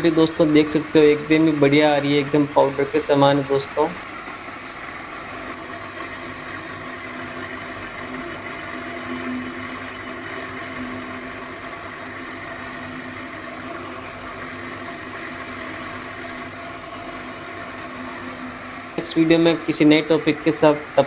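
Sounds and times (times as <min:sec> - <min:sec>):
flour mill grinding with motor hum: 0:00.0 - 0:21.0.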